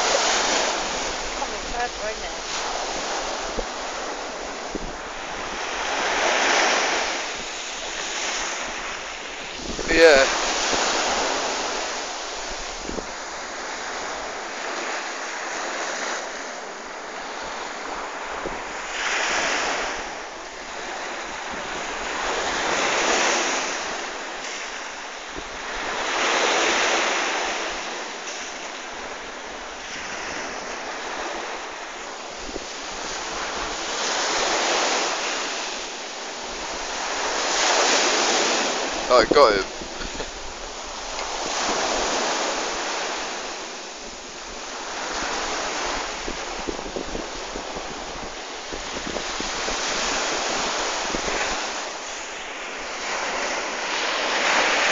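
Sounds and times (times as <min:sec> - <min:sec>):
surf washing in: 0:00.0 - 0:54.9
wind buffeting microphone: 0:00.0 - 0:54.9.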